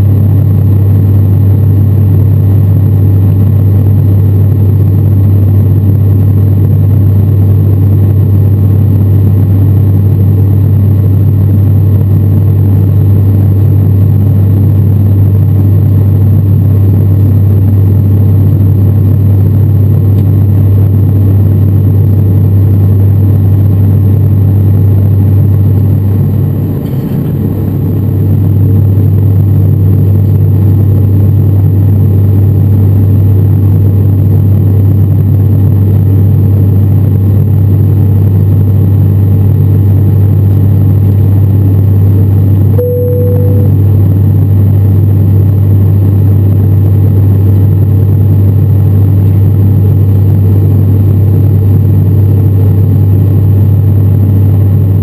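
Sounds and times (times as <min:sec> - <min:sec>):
turboprop engine drone: 0:00.0 - 0:55.0.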